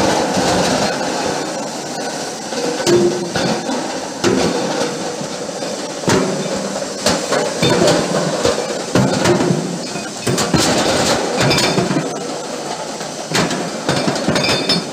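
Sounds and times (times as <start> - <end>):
steady machine noise: 0.0 - 14.9.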